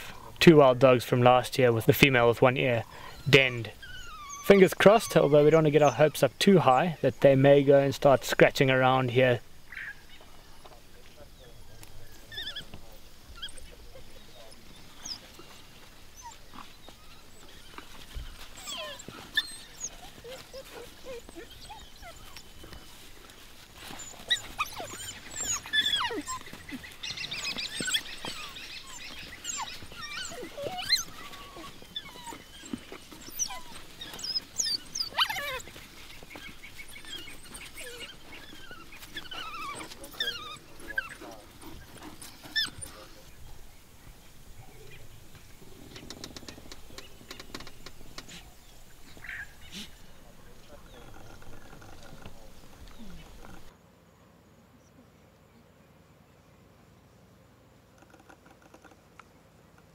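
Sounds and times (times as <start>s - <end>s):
wild dogs twittering: 2.0s - 53.7s.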